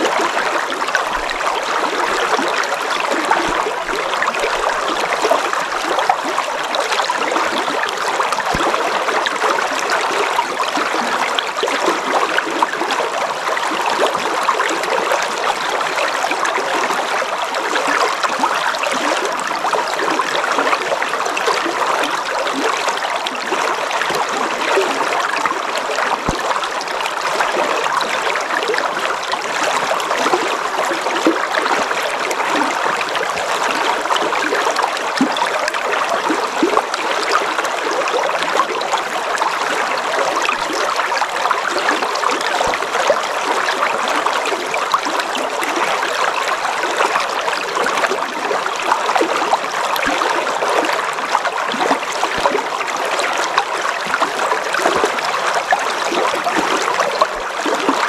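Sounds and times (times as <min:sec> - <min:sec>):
water trickles and splashes: 0:00.0 - 0:58.0.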